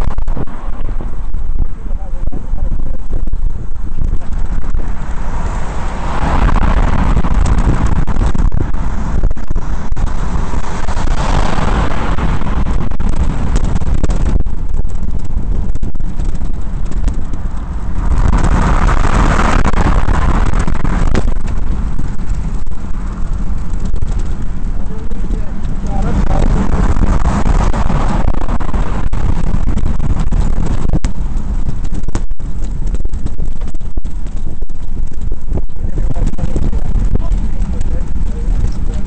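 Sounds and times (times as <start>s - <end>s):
road and wind noise: 0.0s - 39.0s.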